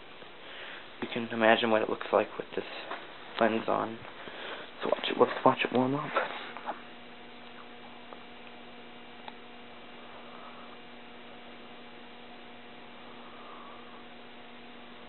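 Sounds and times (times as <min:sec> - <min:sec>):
street lamp ballast humming: 0:00.0 - 0:15.0.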